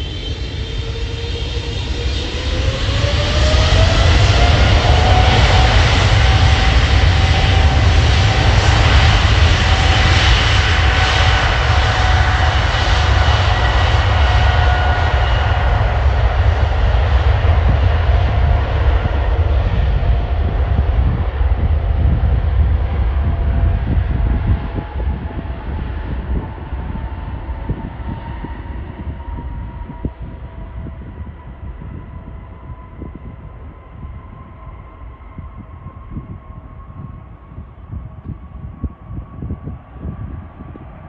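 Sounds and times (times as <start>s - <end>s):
jet engine roar with whine: 0.0s - 41.0s.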